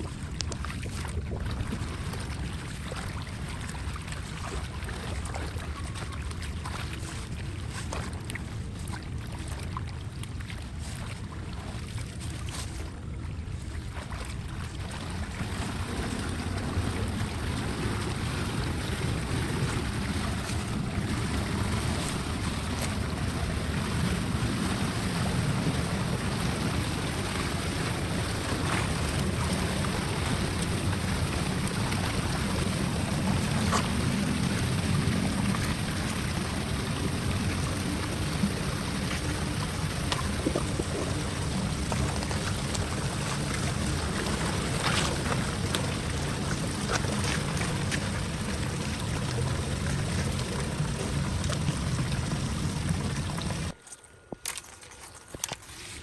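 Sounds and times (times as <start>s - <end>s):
floodwater rushing through drain: 0.0s - 53.8s.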